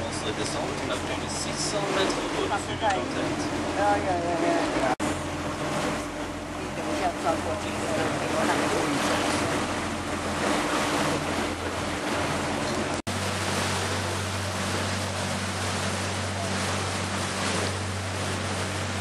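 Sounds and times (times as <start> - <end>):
boat engine humming: 0.0 - 19.0
water rushing past hull: 0.0 - 19.0.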